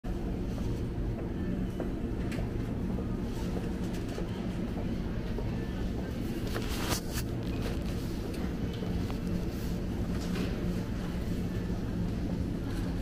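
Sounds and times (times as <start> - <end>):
low mechanical hum: 0.0 - 13.0
faint voices: 0.2 - 13.0.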